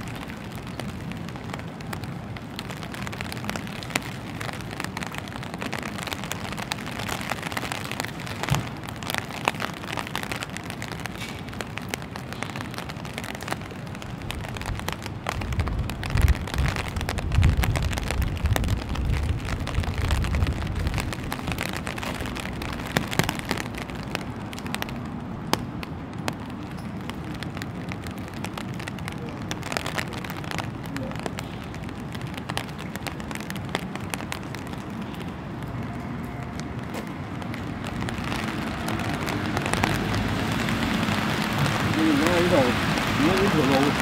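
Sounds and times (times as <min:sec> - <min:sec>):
rain hissing on wet pavement: 0:00.0 - 0:44.0
rain ticking on an umbrella: 0:00.0 - 0:44.0.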